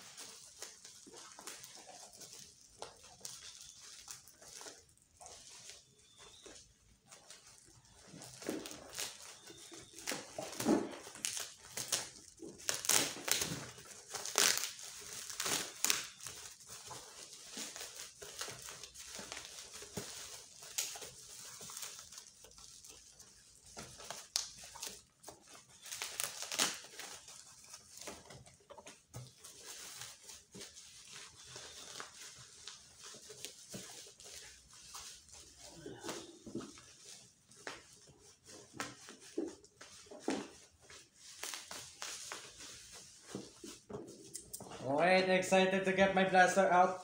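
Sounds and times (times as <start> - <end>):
plastic wrapping crinkling: 0.0 - 47.0.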